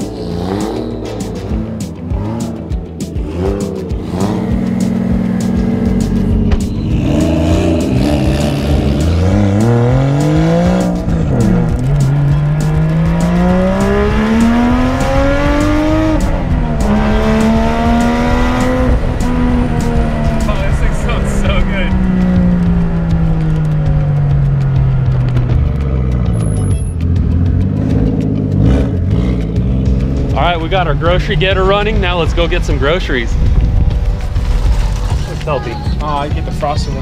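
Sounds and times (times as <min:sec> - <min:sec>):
car engine accelerating hard: 0:00.0 - 0:33.8.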